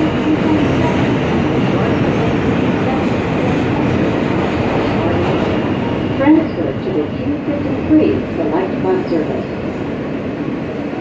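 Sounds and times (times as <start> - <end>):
subway train rumbling on track: 0.0 - 11.0.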